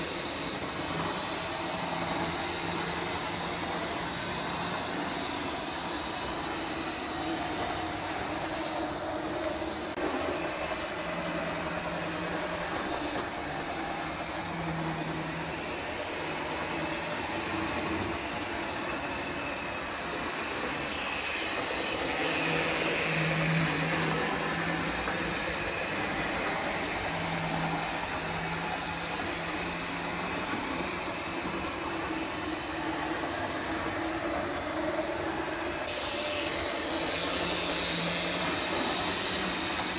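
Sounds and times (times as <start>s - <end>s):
model train motor whirring: 0.0s - 39.9s.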